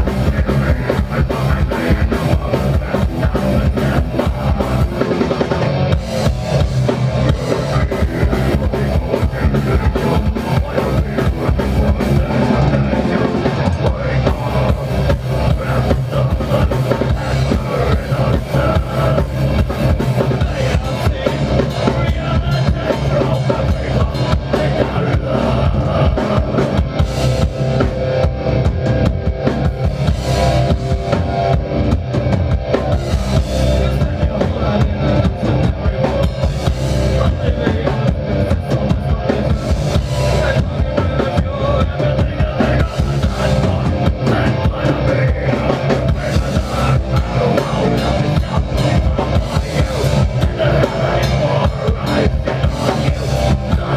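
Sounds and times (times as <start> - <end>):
fast heavy drum beat: 0.0 - 53.9
metal band playing live: 0.0 - 53.9.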